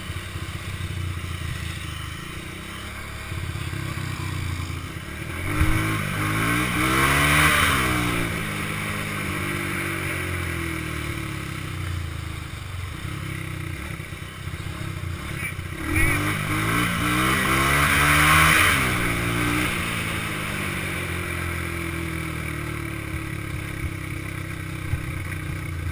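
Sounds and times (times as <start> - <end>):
atv engines running: 0.0 - 25.9
engine revving: 0.0 - 25.9.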